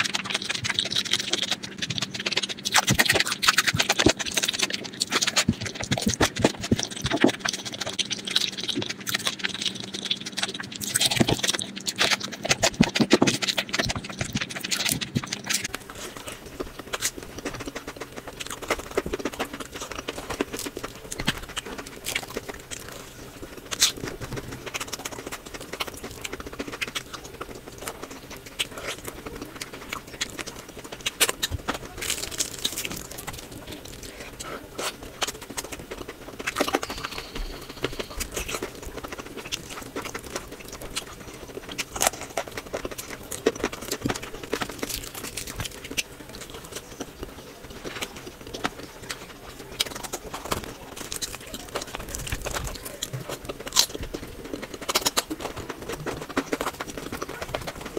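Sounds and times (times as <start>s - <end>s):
faint steady hum: 0.0s - 57.9s
wet chewing and lip smacks: 0.0s - 57.9s.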